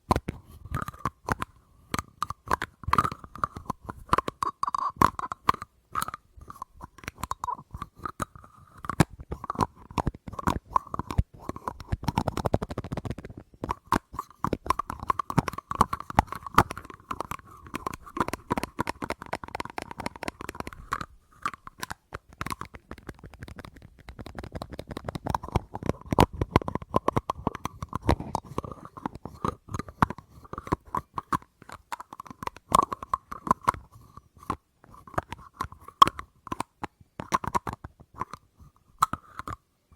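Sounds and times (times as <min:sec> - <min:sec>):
fast tapping on hard object: 0:00.0 - 0:38.4.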